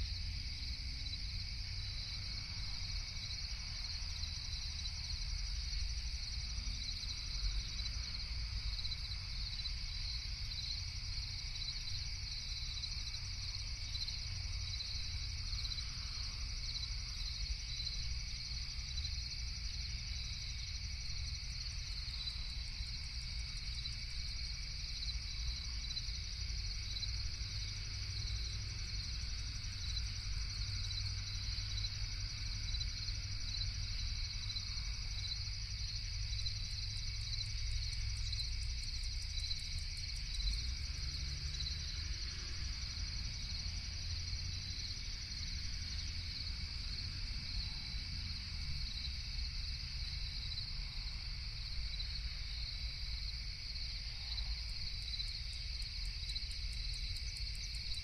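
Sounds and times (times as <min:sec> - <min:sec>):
crickets trilling: 0:00.0 - 0:58.0
low steady rumble: 0:00.0 - 0:58.0.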